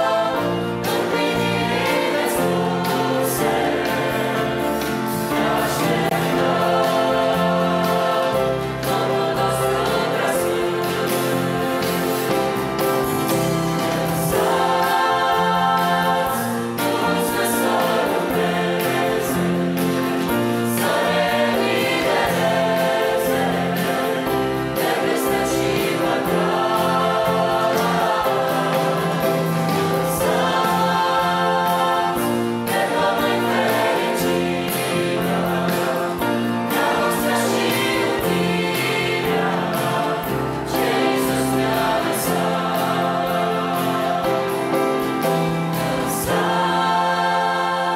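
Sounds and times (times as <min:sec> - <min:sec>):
drums: 0:00.0 - 0:47.9
guitars: 0:00.0 - 0:47.9
mixed choir singing in harmony: 0:00.0 - 0:47.9
piano: 0:00.0 - 0:47.9.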